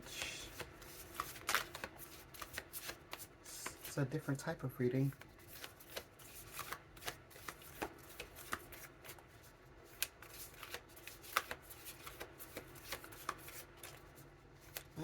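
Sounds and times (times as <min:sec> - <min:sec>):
cards being shuffled: 0:00.2 - 0:04.0, 0:05.1 - 0:15.0.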